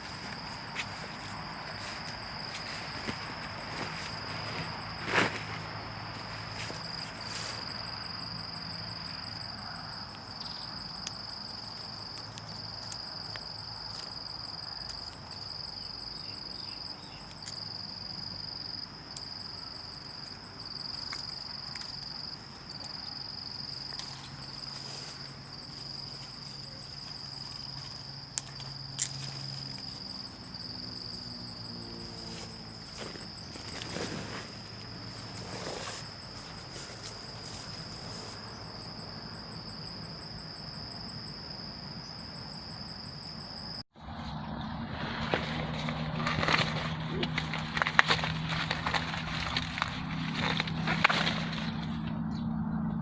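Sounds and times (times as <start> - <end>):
insects trilling: 0.0 - 43.8, 45.6 - 52.9.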